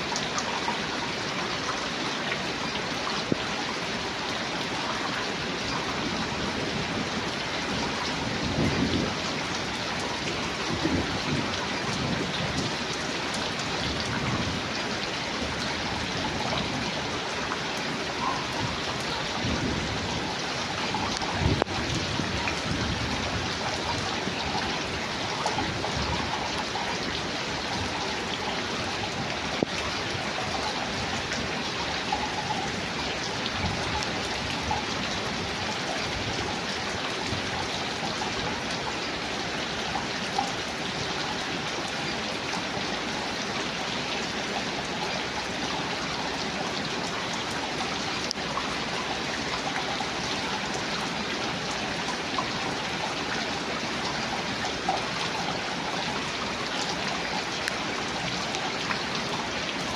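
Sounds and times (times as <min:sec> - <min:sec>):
sharp drips: 0:00.0 - 0:59.9
steady rain falling: 0:00.0 - 0:59.9.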